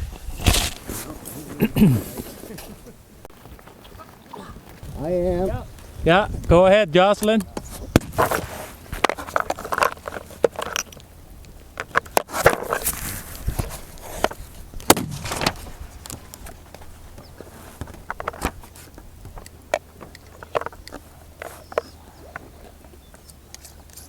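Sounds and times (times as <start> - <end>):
handling clicks and scrapes: 0.0 - 2.8, 7.2 - 24.0.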